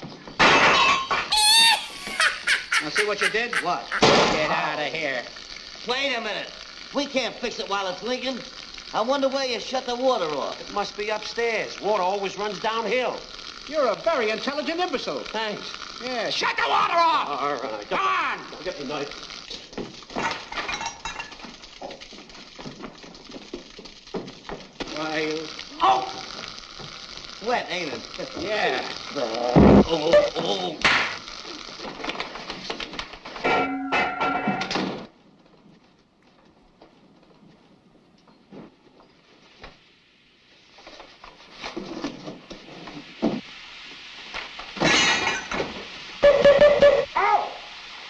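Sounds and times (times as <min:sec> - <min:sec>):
hiss: 0:01.3 - 0:33.4, 0:38.5 - 0:48.0.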